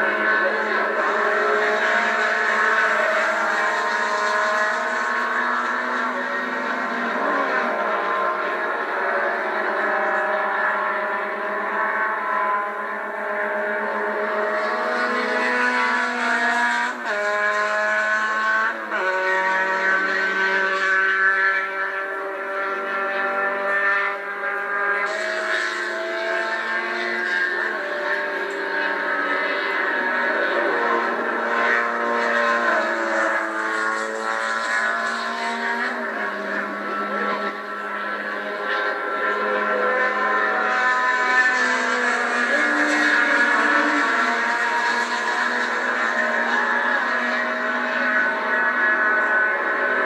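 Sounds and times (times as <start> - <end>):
race car engines revving high: 0.0 - 50.0.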